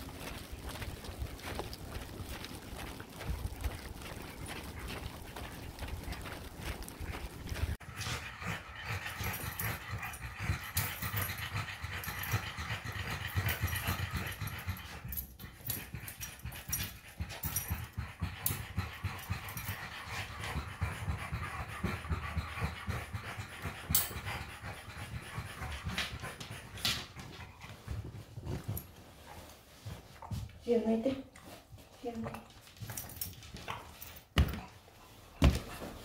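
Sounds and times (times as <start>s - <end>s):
dogs panting rapidly: 0.0s - 36.0s.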